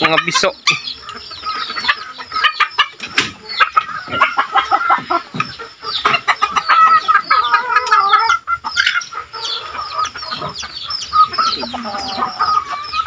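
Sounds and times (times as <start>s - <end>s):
chicken drawn-out call: 0.0s - 13.0s
chickens calling: 0.0s - 13.0s.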